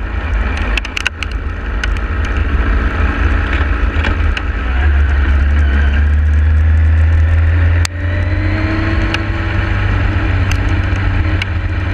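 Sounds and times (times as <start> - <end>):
motorcycle engine running: 0.0 - 11.9
wind noise on microphone: 0.0 - 11.9.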